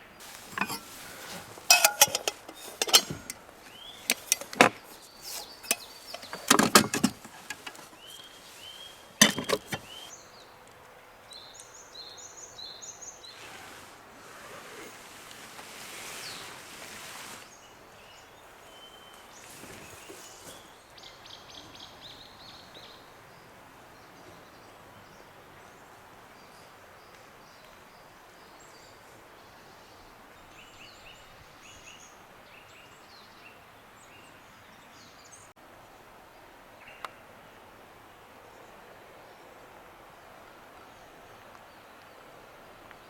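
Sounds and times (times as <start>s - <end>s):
small birds chirping: 0.0s - 35.5s
rustle: 0.0s - 43.0s
steady low hiss: 0.0s - 43.0s.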